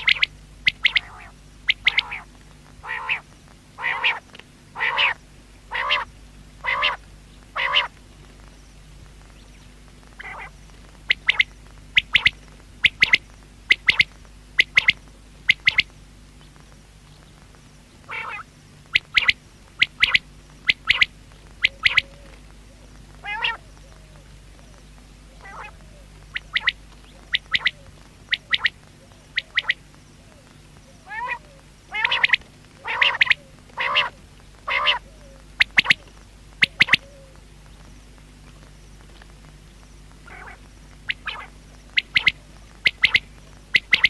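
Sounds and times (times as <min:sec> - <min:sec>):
quail calling: 0:00.0 - 0:08.0, 0:10.2 - 0:15.9, 0:18.0 - 0:37.4, 0:40.2 - 0:44.0.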